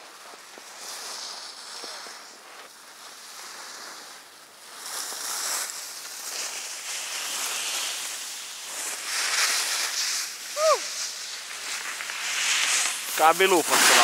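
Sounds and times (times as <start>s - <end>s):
skis scraping over icy snow: 0.0s - 14.0s.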